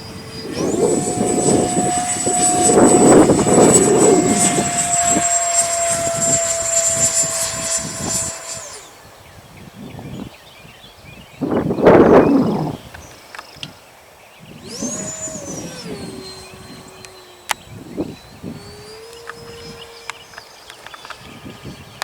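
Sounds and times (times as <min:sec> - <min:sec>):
electric ducted fan whine: 0:00.0 - 0:10.2, 0:14.4 - 0:22.0
wind rumbling on microphone: 0:00.0 - 0:13.8, 0:14.4 - 0:22.0.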